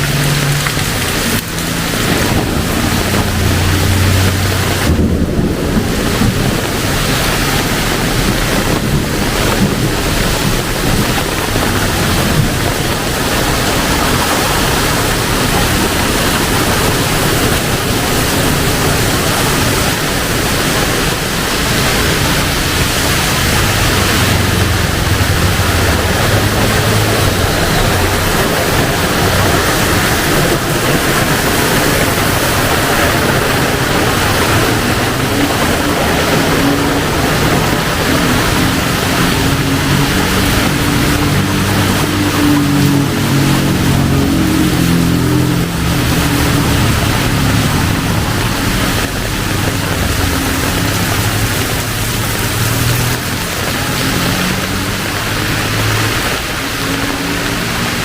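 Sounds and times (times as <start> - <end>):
low rumble: 0.0 - 53.2
heavy rain pouring: 0.0 - 58.0.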